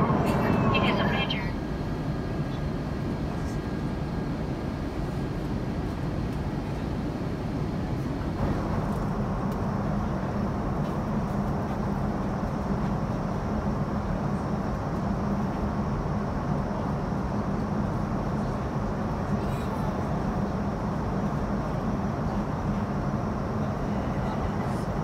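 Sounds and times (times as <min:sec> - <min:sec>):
airliner cabin noise: 0:00.0 - 0:25.0.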